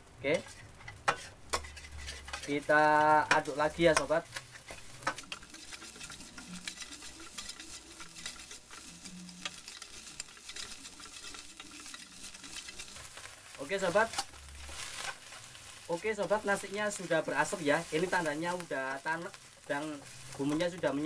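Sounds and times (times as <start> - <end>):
rice sizzling in a wok: 0.0 - 21.0
metal spatula scraping a pan: 0.3 - 21.0.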